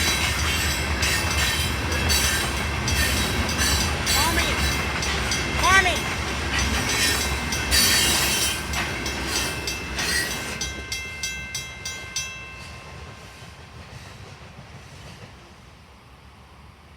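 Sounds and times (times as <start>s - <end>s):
freight train cars rolling past: 0.0s - 16.9s.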